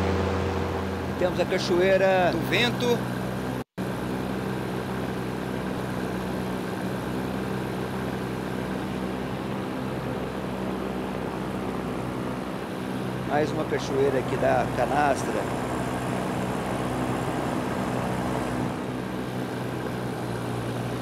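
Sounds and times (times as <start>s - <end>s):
paramotor engine droning: 0.0s - 21.0s.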